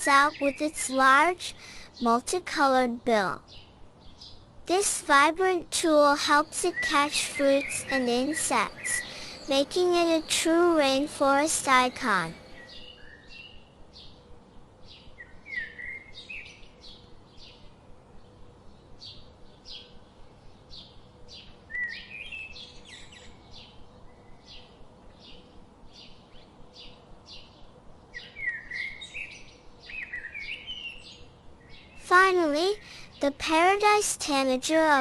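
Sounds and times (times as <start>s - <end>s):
birds chirping: 0.0s - 5.2s, 6.1s - 35.0s.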